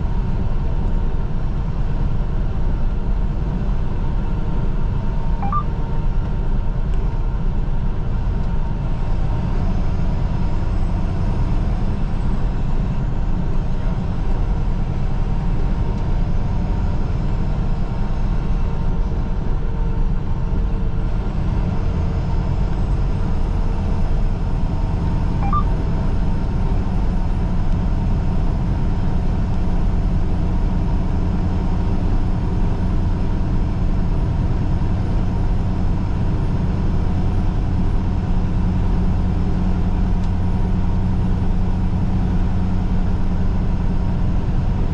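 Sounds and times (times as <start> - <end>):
truck engine and tyres rumbling: 0.0 - 44.9.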